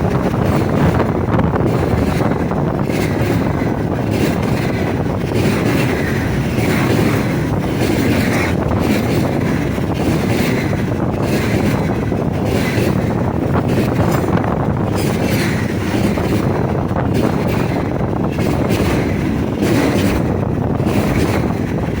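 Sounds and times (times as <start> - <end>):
freight train wheels rumbling: 0.0 - 22.0
wind buffeting microphone: 0.0 - 22.0.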